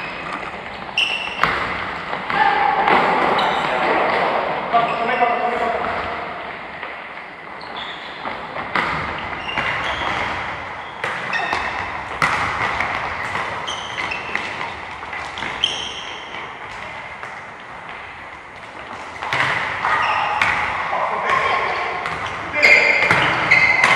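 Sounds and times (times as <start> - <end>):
balls kicked and bouncing: 0.0 - 23.9.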